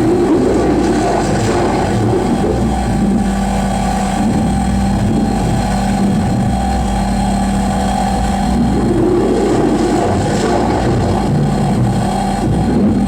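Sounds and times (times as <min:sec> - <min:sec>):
loud distorted noise drone: 0:00.0 - 0:13.0.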